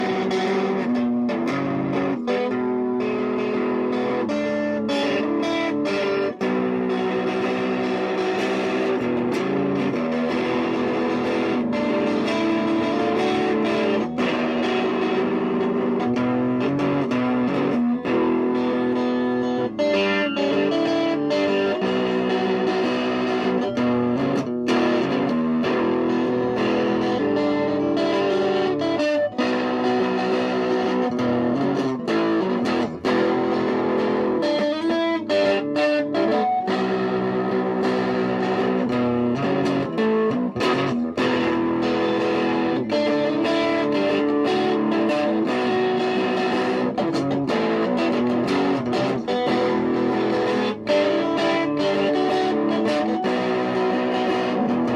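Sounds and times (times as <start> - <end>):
electric guitar with effects: 0.0 - 54.9.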